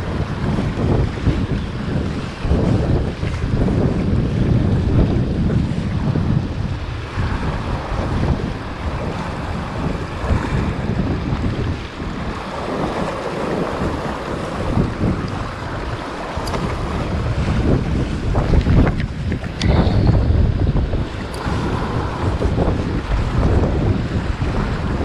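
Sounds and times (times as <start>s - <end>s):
sea waves against rocks: 0.0s - 25.0s
wind buffeting microphone: 0.0s - 25.0s.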